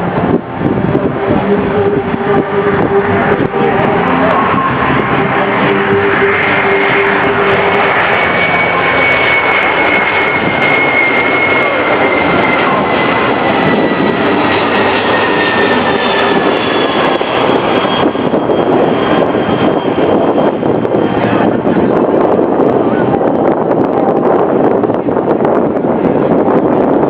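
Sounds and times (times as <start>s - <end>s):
jet plane roaring past: 0.0s - 27.0s.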